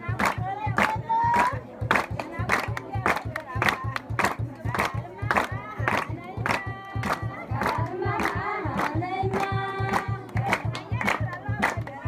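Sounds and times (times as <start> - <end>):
crowd singing: 0.0 - 12.0
hand-clapping in time: 0.0 - 12.0.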